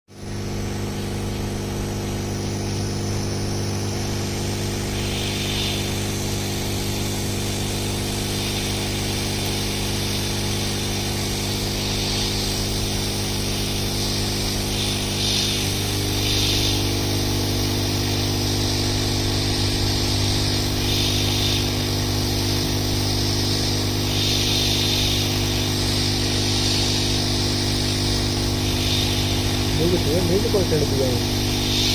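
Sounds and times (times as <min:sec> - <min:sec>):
electric motor hum: 0:00.1 - 0:31.9
short bursts of hiss: 0:02.6 - 0:31.9.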